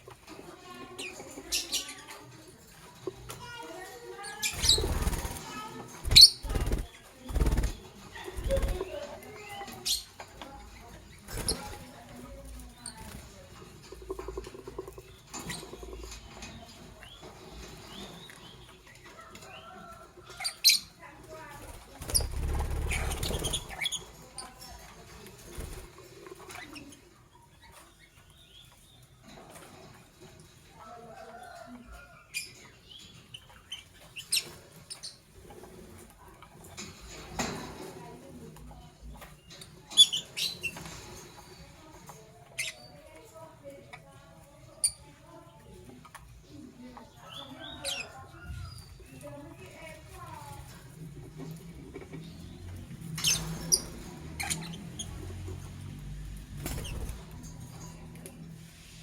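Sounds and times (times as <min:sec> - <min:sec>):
lovebirds chirping and squeaking: 0:00.0 - 0:59.0.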